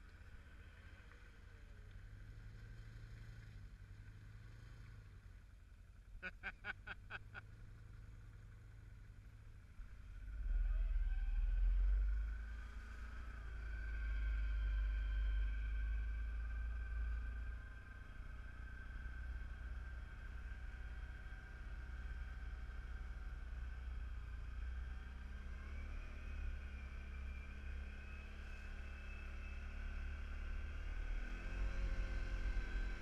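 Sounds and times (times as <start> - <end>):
atv engine rumbling: 0.0 - 33.0.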